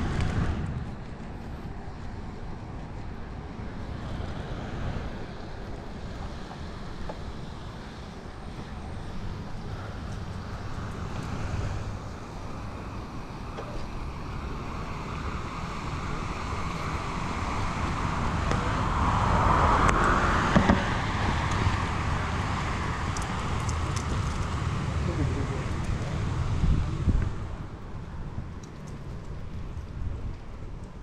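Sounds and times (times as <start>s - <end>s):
car passing: 0.0s - 31.0s
wind rushing over microphone: 0.0s - 31.0s.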